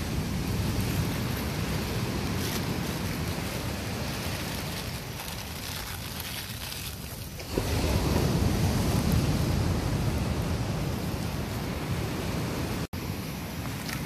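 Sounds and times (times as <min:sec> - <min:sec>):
surf rushing: 0:00.0 - 0:13.8
wind buffeting microphone: 0:00.0 - 0:14.0.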